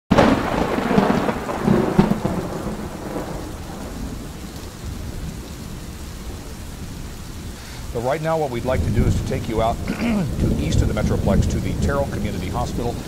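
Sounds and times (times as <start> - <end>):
steady rain: 0.1 - 13.0
thunder crack and rumble: 0.1 - 13.0.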